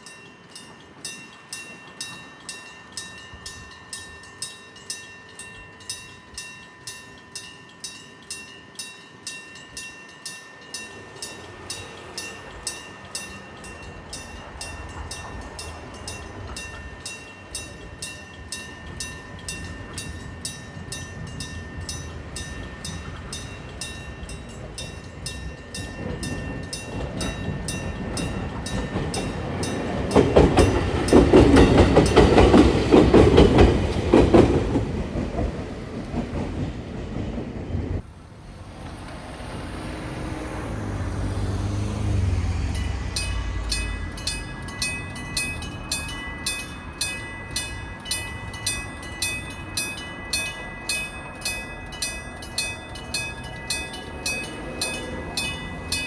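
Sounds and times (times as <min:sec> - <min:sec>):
railroad crossing bell ringing: 0:00.0 - 0:36.9, 0:38.0 - 0:56.0
train rumble: 0:00.0 - 0:56.0.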